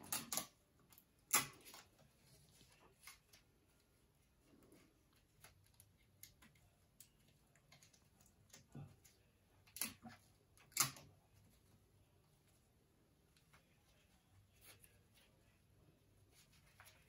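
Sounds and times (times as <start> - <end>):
paper and plastic straws rustling: 0.0 - 17.0.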